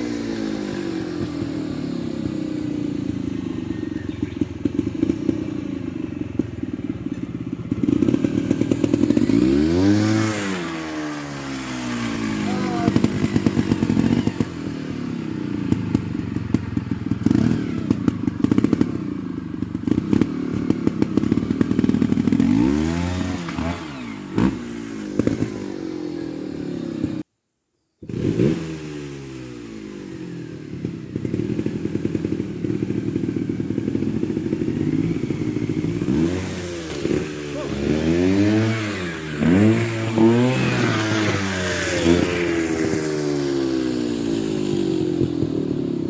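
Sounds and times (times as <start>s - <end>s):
motorcycle engine revving: 0.0s - 27.3s, 28.0s - 46.0s.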